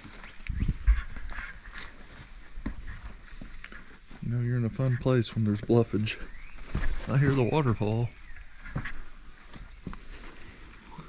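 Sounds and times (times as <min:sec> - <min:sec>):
footsteps on rock and leaves: 0:00.0 - 0:04.3, 0:05.9 - 0:11.0.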